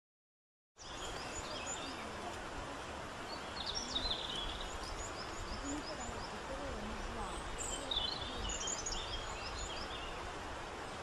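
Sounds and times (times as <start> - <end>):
small birds chirping: 0.8 - 11.0
steady background hiss: 0.8 - 11.0.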